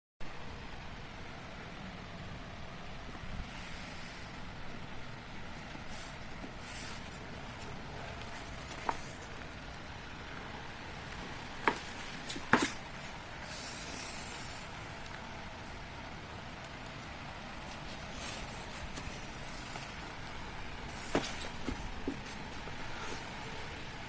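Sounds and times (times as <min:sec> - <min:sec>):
steady background hiss: 0:00.2 - 0:24.0.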